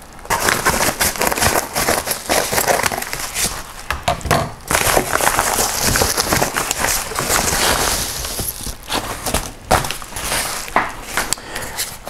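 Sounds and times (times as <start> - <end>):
paper mailer crinkling: 0.2 - 3.9, 4.7 - 12.0.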